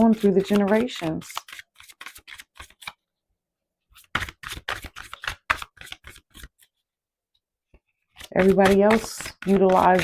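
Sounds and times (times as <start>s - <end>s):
cards being shuffled: 0.0s - 3.0s, 3.9s - 6.8s, 7.7s - 10.0s.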